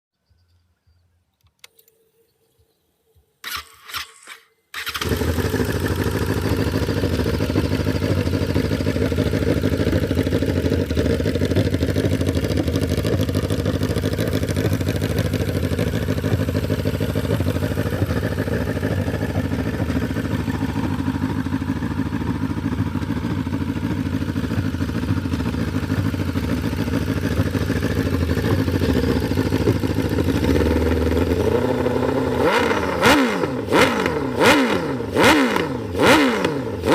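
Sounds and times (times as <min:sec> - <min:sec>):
motorcycle engine starting: 0:03.4 - 0:36.9.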